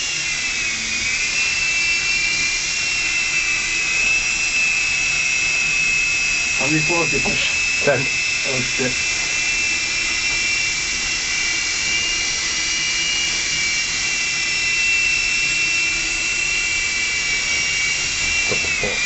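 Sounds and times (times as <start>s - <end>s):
toy helicopter high whine: 0.0s - 19.0s.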